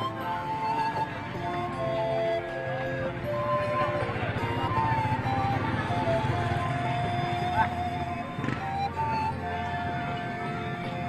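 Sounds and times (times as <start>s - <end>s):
music with long held notes: 0.0s - 11.0s.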